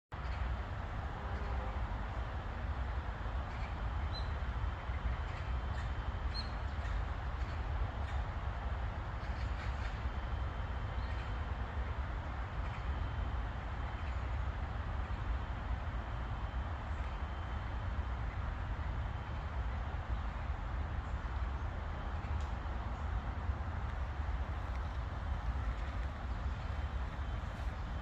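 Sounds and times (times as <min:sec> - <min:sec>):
distant traffic rumble: 0:00.1 - 0:28.0.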